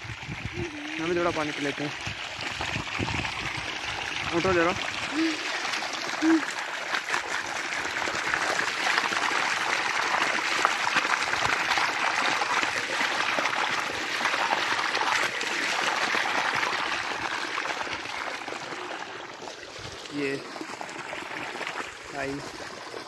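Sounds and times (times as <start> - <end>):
water pouring onto wet ground: 0.0 - 23.0.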